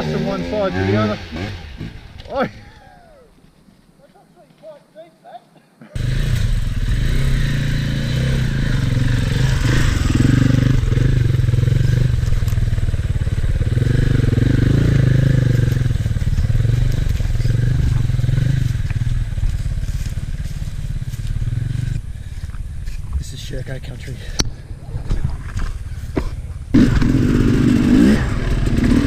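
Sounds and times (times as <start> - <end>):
dirt bike engine revving: 0.0 - 2.4, 6.0 - 23.1, 24.6 - 29.0.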